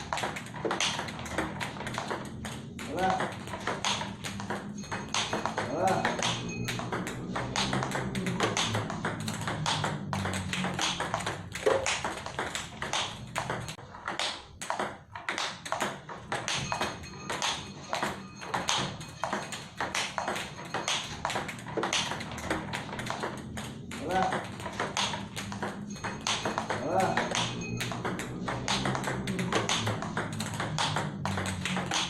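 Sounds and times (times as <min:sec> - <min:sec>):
table tennis ball clicks: 0:00.0 - 0:32.0.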